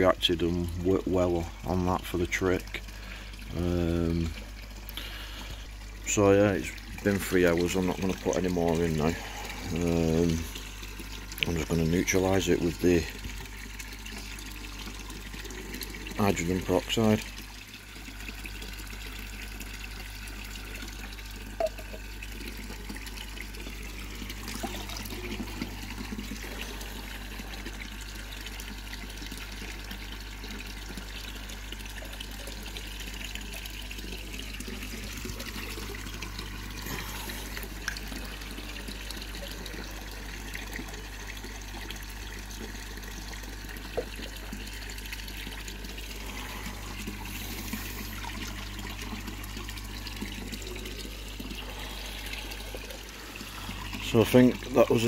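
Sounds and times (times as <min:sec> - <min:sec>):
constant low hum: 0:00.0 - 0:55.0
water running and splashing: 0:00.0 - 0:55.0.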